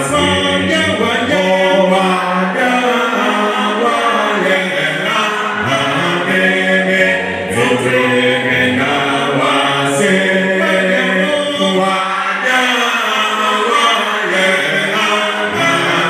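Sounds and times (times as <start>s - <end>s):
group singing a hymn a cappella: 0.0s - 16.0s.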